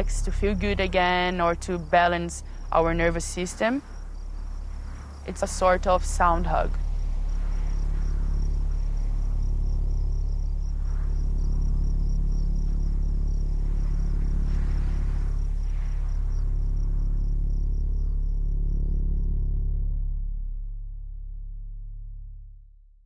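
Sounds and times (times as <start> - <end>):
crickets chirping: 0.0 - 19.9
deep electronic music drone: 0.0 - 23.0.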